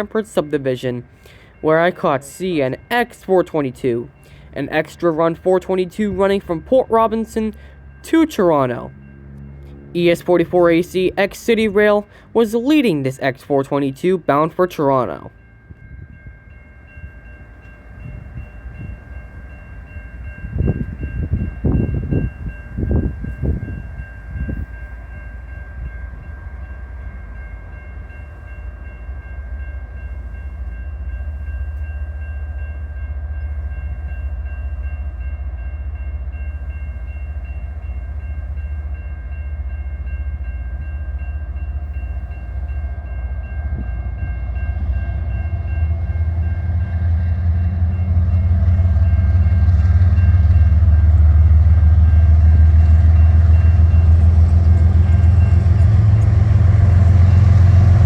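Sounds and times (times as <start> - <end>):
crossing bell ringing: 0.0 - 58.0
diesel locomotive engine rumble: 0.0 - 58.0.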